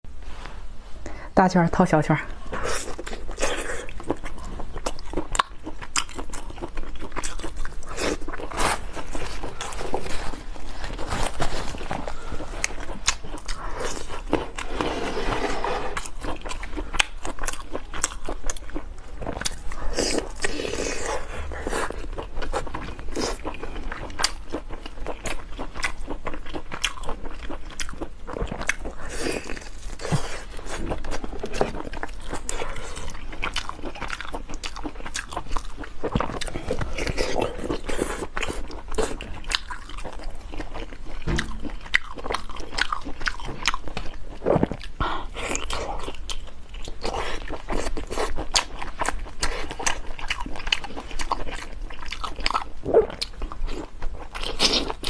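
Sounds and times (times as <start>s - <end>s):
person crunching and chewing: 2.4s - 55.0s.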